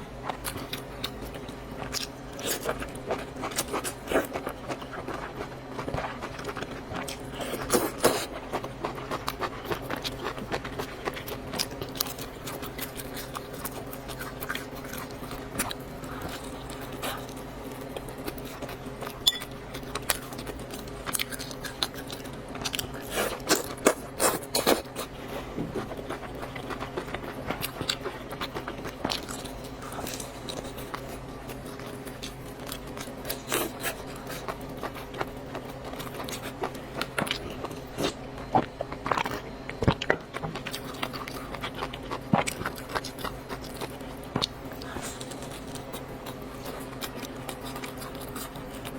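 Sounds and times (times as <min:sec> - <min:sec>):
steady low hum: 0:00.0 - 0:48.9
person chewing: 0:00.2 - 0:48.9.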